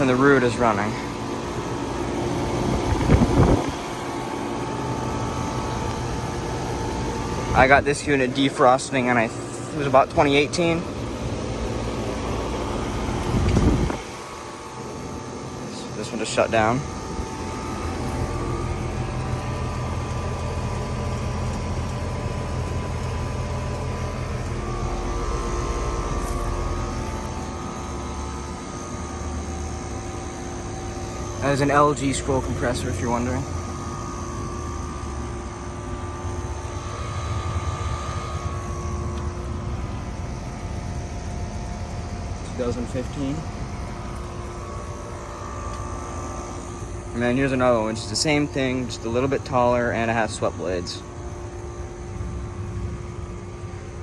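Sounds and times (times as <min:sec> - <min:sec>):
fan noise: 0:00.0 - 0:54.0
heat pump humming: 0:00.0 - 0:54.0
steady whining tones: 0:00.0 - 0:54.0.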